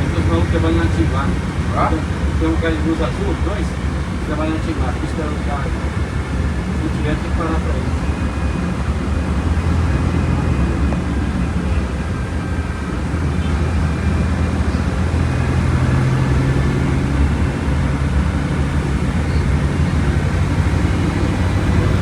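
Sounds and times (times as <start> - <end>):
bus engine running: 0.0 - 22.0.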